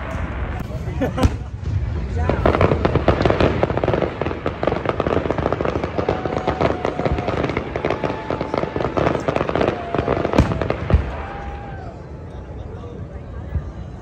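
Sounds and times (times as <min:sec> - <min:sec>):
fireworks bursting and crackling: 0:00.0 - 0:12.1.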